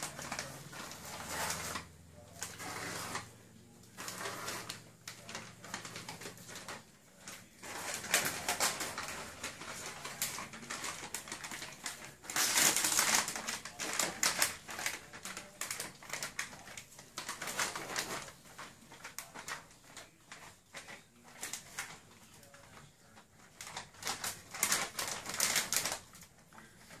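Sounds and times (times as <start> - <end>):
crisp packet crinkling: 0.0 - 27.0.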